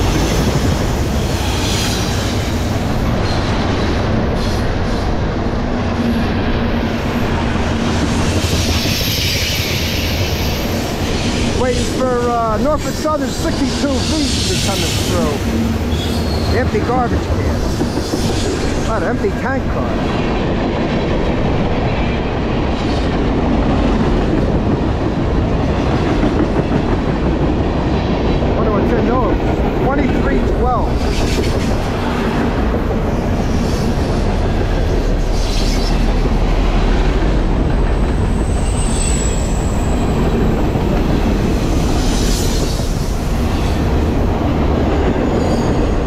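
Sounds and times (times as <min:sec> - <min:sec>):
freight train wheels rumbling on rail: 0:00.0 - 0:46.0.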